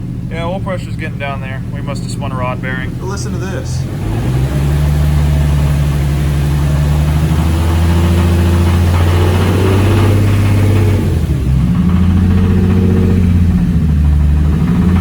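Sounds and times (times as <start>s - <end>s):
car engine revving: 0.0s - 15.0s
engine knocking: 0.0s - 15.0s.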